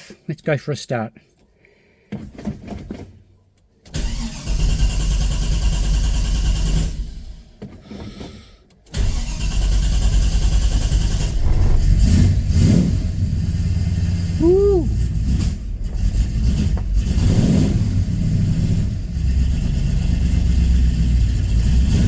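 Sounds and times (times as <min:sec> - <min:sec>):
engine starting and running: 0:03.8 - 0:22.0.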